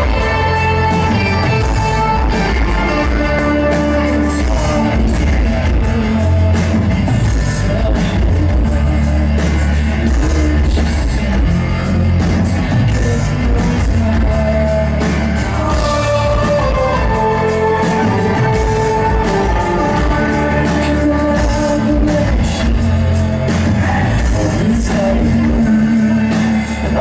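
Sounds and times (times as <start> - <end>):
heavy steady bass: 0.0 - 27.0
man singing: 0.0 - 27.0
synth-pop band playing live: 0.0 - 27.0.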